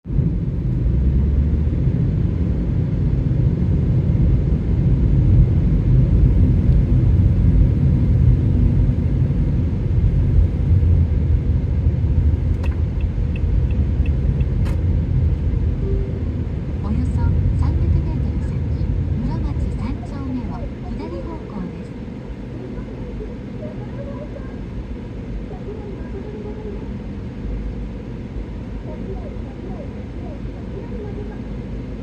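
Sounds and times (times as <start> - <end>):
car road and engine noise: 0.0 - 32.0.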